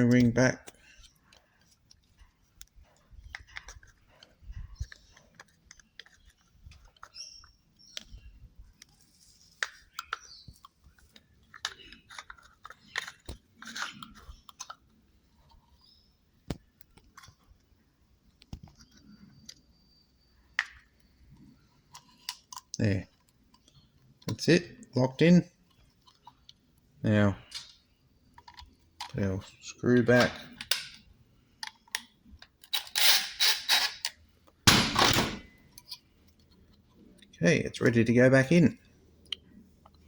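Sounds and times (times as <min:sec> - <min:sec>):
plastic parts clicking and scraping: 0:00.0 - 0:19.8, 0:20.6 - 0:38.0.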